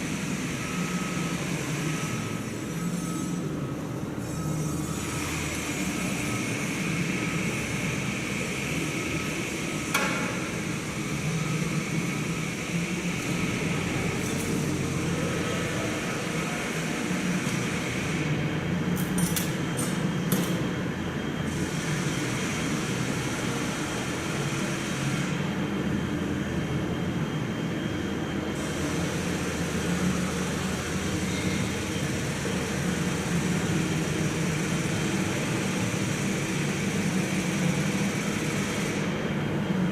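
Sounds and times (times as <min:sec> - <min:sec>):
diesel train engine running: 0:05.0 - 0:39.9.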